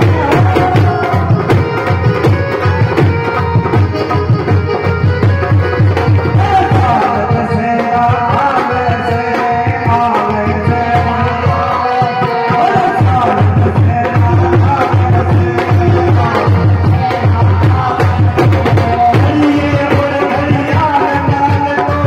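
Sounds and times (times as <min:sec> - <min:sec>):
tabla drum rhythm: 0:00.0 - 0:22.0.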